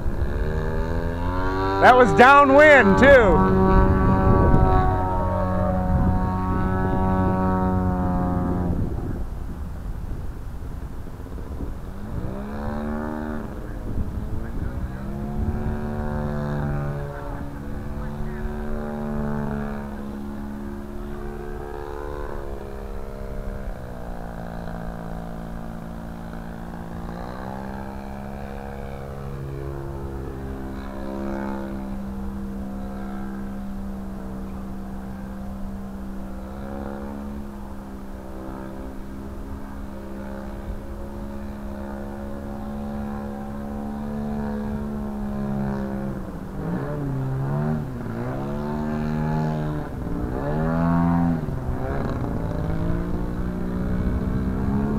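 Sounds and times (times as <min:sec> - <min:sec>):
model plane engine and propeller: 0:00.0 - 0:54.9.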